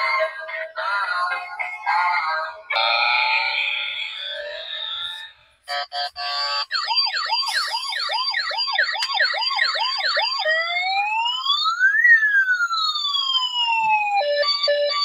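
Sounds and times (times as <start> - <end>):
toy police siren: 0.0 - 15.0.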